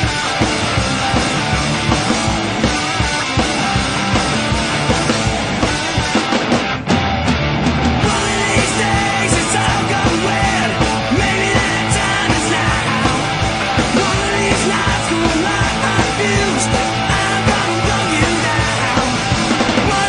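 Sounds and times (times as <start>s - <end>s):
distorted guitars: 0.0s - 20.0s
drums: 0.0s - 20.0s
punk rock song: 0.0s - 20.0s.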